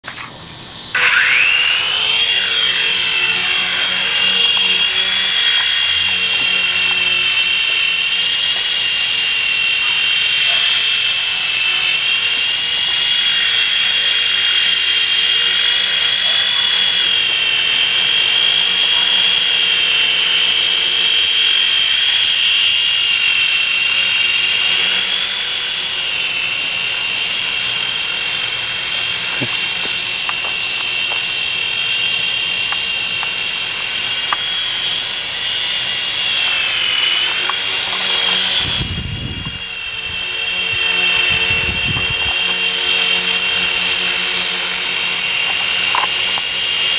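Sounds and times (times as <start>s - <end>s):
toy helicopter motor whine: 0.1s - 46.9s.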